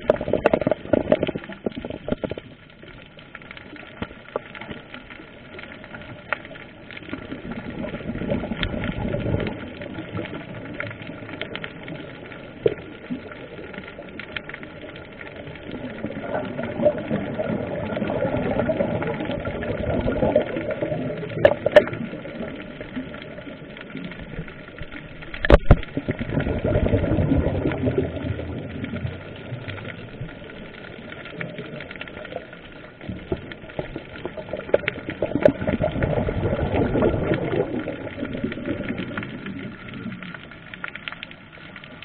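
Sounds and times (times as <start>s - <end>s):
gurgling underwater rumble: 0.0s - 42.0s
sharp underwater clicks: 0.0s - 42.0s.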